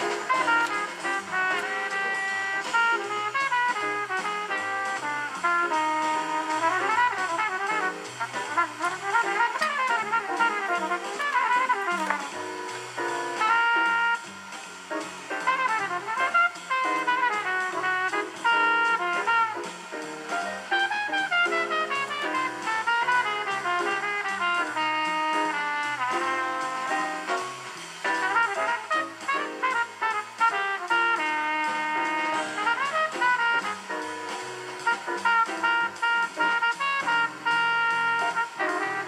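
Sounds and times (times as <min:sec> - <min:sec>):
jazz music on a radio: 0:00.0 - 0:39.0.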